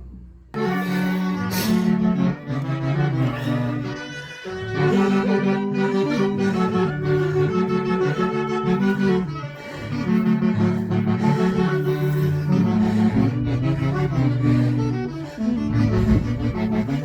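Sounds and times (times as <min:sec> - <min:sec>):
strings: 0:00.5 - 0:17.0
reed wind instruments: 0:00.6 - 0:17.0.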